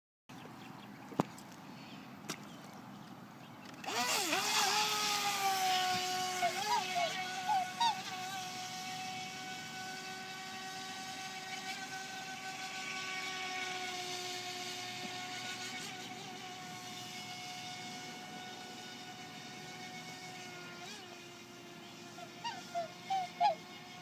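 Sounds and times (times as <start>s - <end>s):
electric motor whine: 3.6s - 24.0s.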